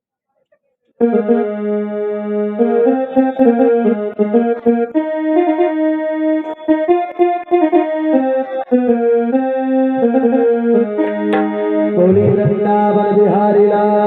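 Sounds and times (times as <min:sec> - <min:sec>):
organ-like keyboard melody: 0:01.0 - 0:14.0.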